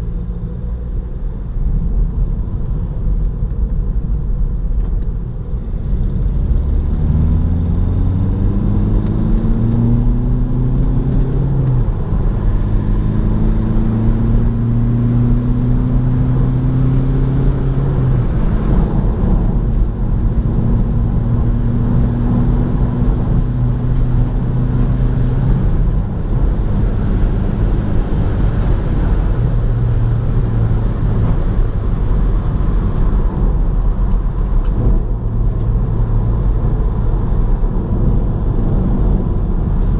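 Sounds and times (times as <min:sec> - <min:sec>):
diesel engine accelerating: 0:00.0 - 0:39.9
road and wind noise: 0:00.0 - 0:39.9.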